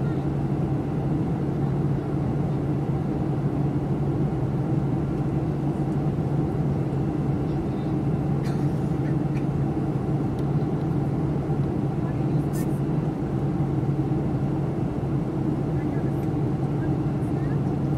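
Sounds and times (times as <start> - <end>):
airliner cabin drone: 0.0 - 17.9.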